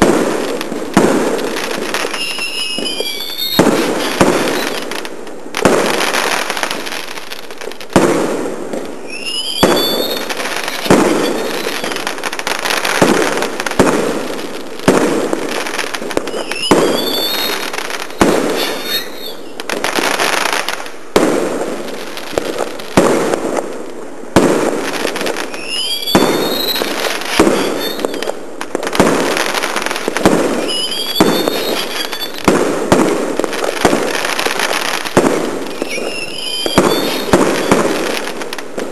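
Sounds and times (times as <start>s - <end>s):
fireworks whistles: 0.0s - 23.4s, 24.4s - 38.9s
fireworks bangs: 0.0s - 38.9s
fireworks crackling: 0.0s - 38.9s.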